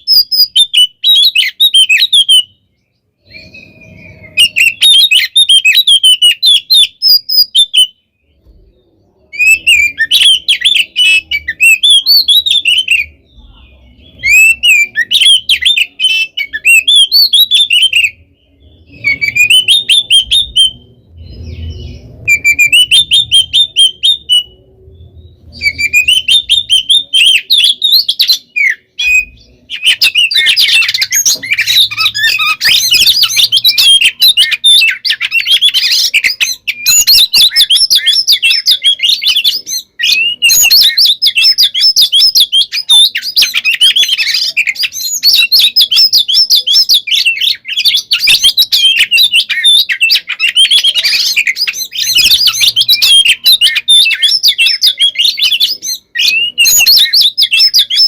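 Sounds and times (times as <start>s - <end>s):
bird singing whistles and chatter: 0.0s - 58.0s.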